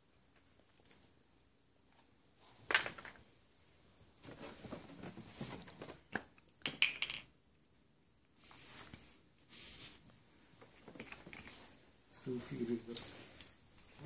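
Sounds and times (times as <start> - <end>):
rustling: 0.1 - 6.4, 8.3 - 14.0.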